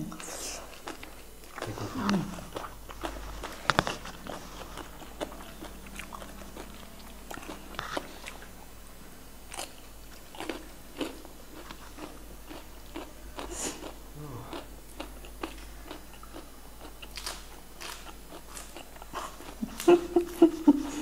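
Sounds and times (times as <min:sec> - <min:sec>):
chewing and crunching food: 0:00.0 - 0:08.8, 0:09.4 - 0:21.0.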